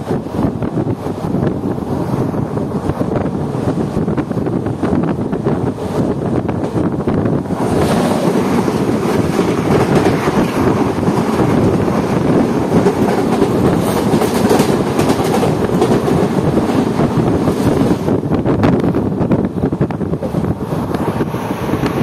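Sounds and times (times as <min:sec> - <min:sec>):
passing train rush and wheel clatter: 0:00.0 - 0:22.0
wind noise: 0:00.0 - 0:22.0.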